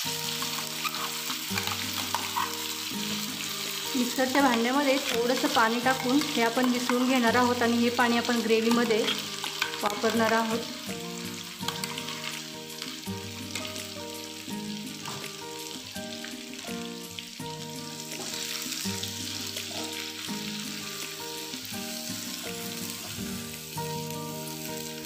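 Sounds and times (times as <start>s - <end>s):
spatula stirring in a pan: 0.0s - 16.6s, 18.0s - 23.7s
food sizzling in a frying pan: 0.0s - 25.0s
soft background music: 0.0s - 25.0s.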